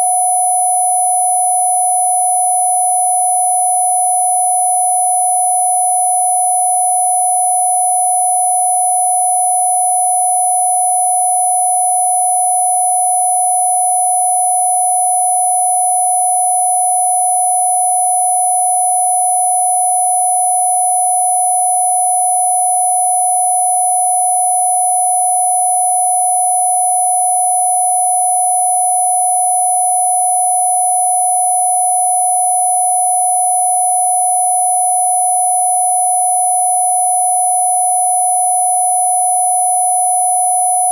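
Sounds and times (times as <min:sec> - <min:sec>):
steady sine tone: 0:00.0 - 0:40.9.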